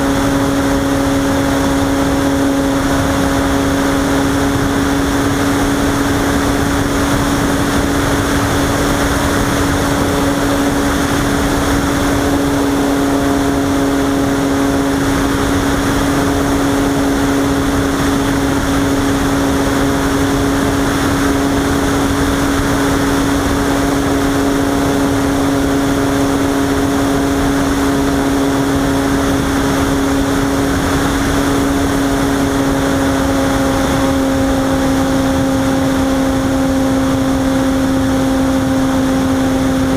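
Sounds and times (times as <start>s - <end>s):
model glider hum: 0.0s - 39.9s
rushing air: 0.0s - 39.9s.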